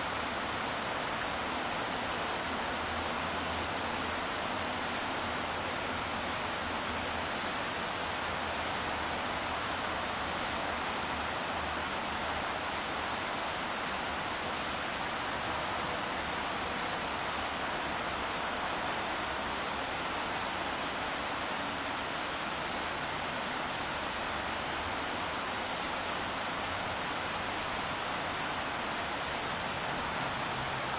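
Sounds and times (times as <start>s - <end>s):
river and waterfalls rushing: 0.0s - 30.9s.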